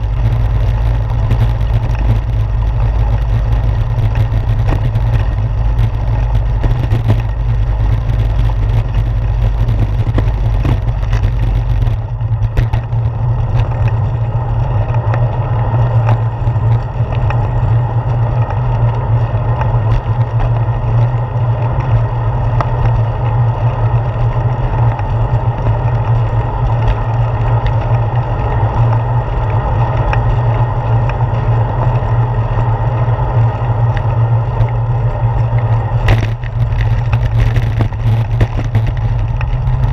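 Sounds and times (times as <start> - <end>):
bicycle road vibration rumble: 0.0 - 39.9
wind buffeting microphone: 0.0 - 39.9.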